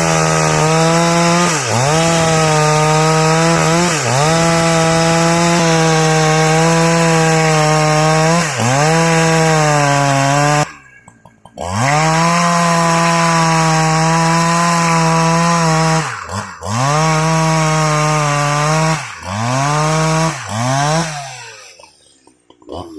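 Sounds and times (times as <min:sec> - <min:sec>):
chainsaw cutting wood: 0:00.0 - 0:22.9.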